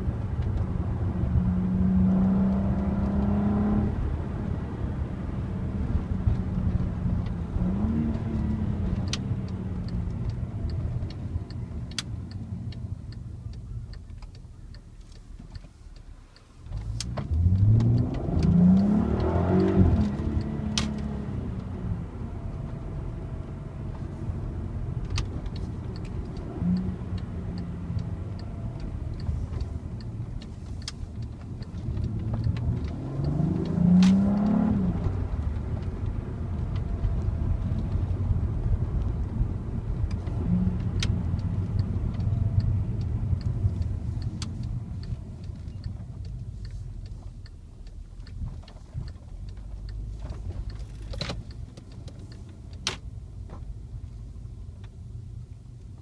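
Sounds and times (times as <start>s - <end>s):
car engine running while driving: 0.0s - 56.0s
light regular ticking: 6.3s - 56.0s.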